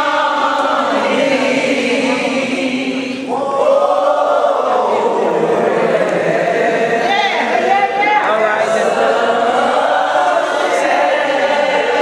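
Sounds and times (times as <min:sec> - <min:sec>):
group singing slow church song: 0:00.0 - 0:12.0.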